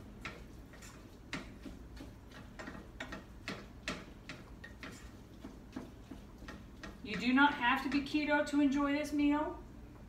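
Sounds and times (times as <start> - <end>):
spatula scraping frying pan: 0.0 - 8.2.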